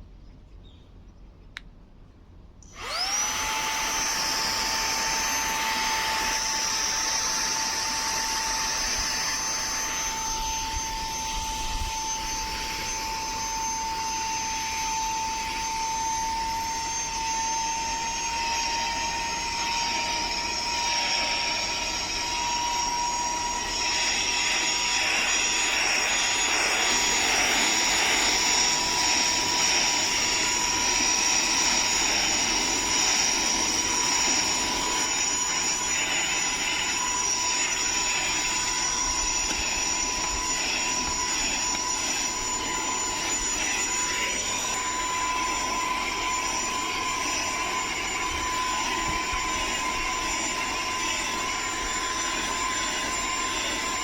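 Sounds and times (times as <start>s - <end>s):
vacuum motor whine: 2.6s - 54.0s.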